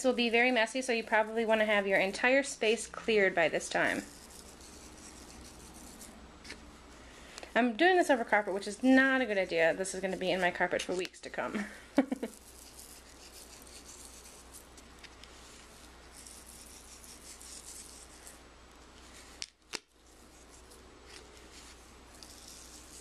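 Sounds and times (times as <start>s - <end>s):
glitter rustling and scratching: 0.0s - 6.9s, 7.8s - 19.4s, 20.0s - 23.0s.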